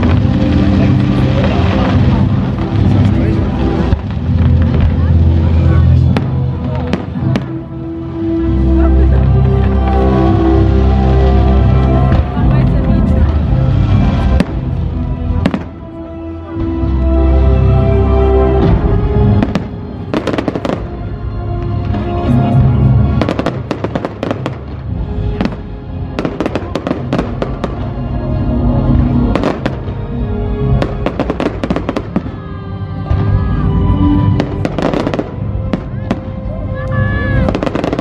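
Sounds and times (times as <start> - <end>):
fireworks bangs and crackling: 0.0 - 17.0, 18.5 - 38.0
loud music: 0.0 - 38.0.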